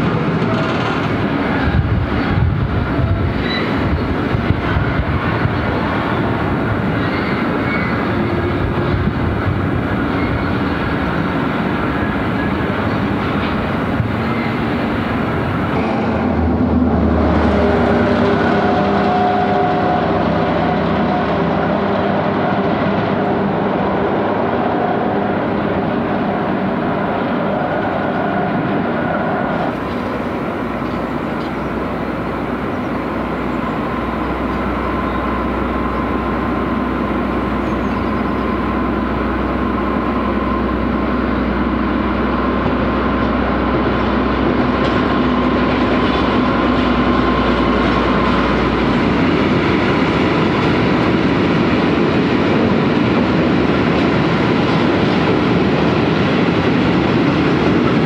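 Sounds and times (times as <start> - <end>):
locomotive engine drone: 0.0 - 58.0
train rumbling on rails: 0.0 - 58.0.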